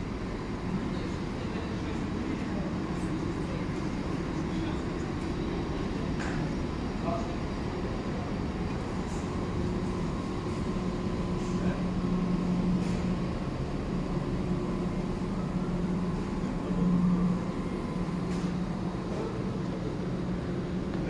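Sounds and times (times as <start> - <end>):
train mechanical hum: 0.0 - 21.0.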